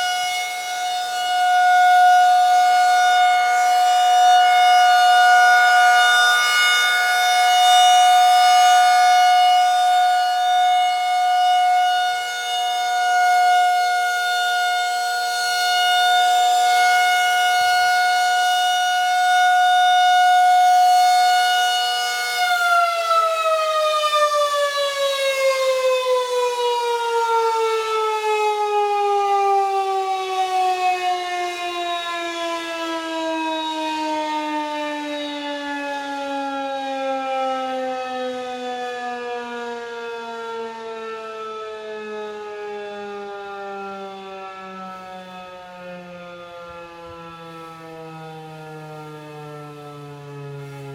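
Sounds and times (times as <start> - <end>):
warning siren: 0.0 - 50.9.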